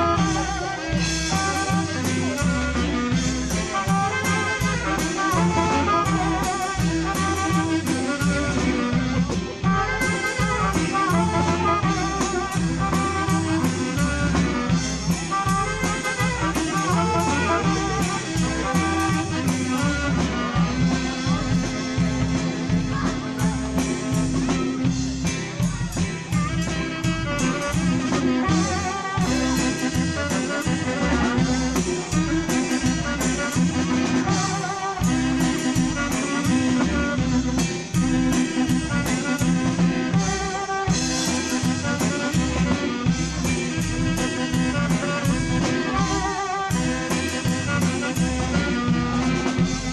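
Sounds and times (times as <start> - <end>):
bass guitar: 0.0 - 49.9
drum kit steady beat: 0.0 - 49.9
saxophone melody: 0.0 - 49.9.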